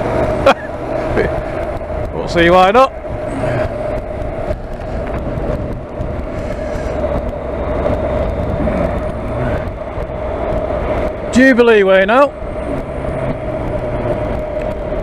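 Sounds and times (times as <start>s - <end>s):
motorcycle engine cruising: 0.0s - 15.0s
steady whine: 0.0s - 15.0s
wind noise: 0.0s - 15.0s.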